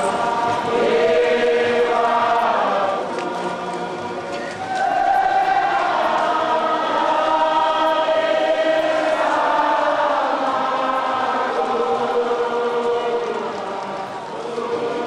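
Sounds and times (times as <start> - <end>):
crowd singing slowly: 0.0 - 15.0.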